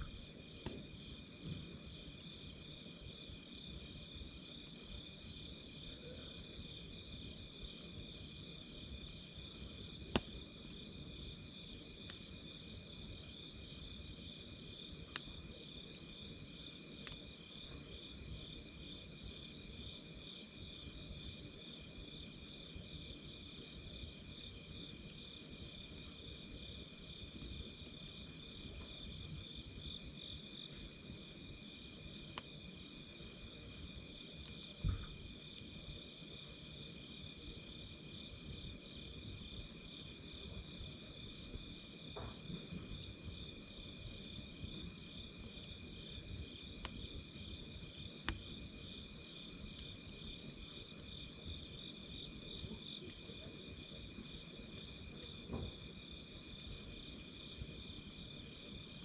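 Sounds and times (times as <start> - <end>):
campfire crackling: 0.0 - 59.0
insects trilling: 0.0 - 59.0.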